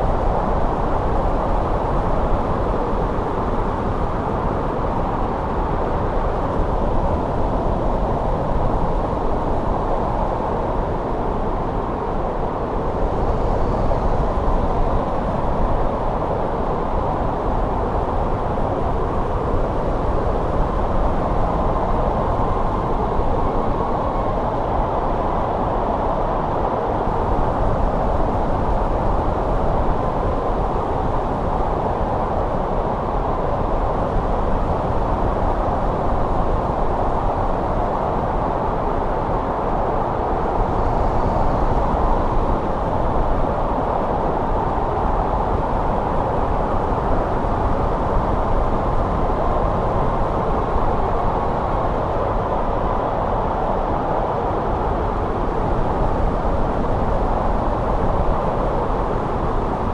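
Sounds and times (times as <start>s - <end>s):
wind blowing with faint whistle: 0.0s - 59.9s.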